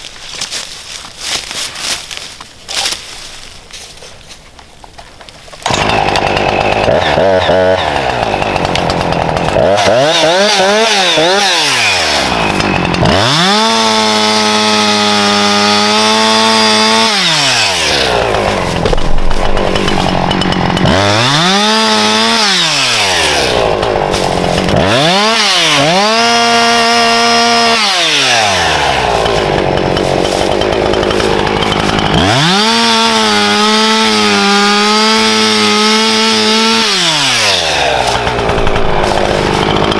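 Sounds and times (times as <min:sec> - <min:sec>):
chainsaw revving: 0:05.6 - 0:39.9.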